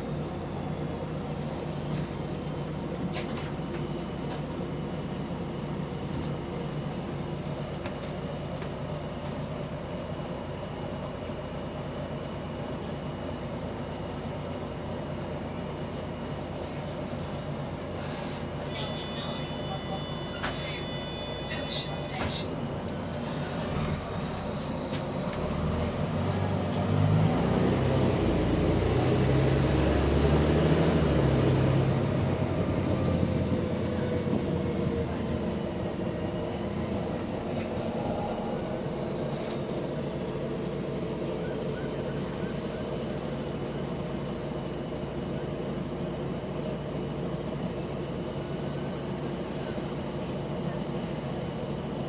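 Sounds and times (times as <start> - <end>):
bus engine pulling hard: 0.0 - 52.0.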